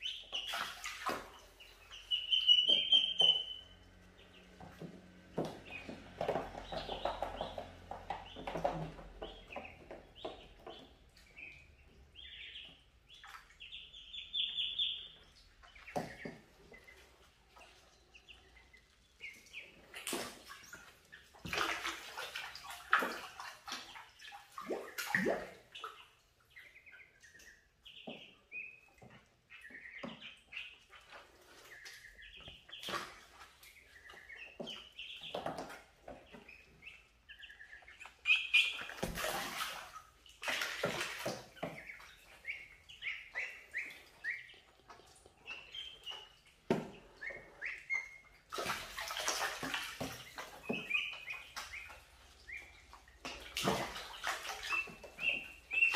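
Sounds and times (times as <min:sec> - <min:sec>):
ducklings peeping: 0:00.0 - 0:55.9
water splashing and sloshing: 0:00.0 - 0:55.9.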